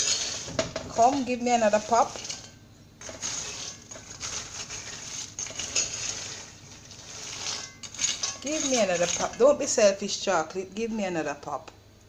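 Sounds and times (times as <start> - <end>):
beans rattling in metal pot: 0.0 - 9.9.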